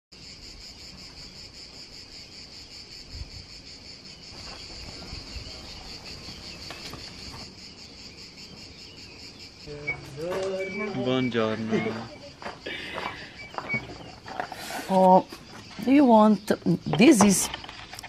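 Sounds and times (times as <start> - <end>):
insects chirping: 0.1 - 18.0.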